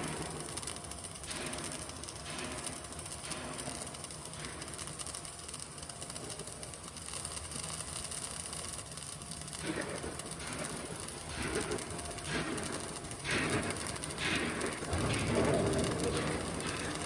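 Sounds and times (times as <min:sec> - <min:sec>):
welding arc crackling hiss: 0:00.0 - 0:17.0.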